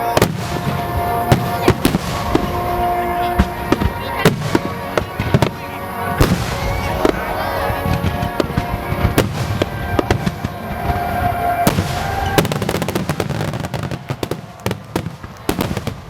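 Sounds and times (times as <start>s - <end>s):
fireworks bangs and crackling: 0.0s - 16.0s
music playing: 0.0s - 16.0s.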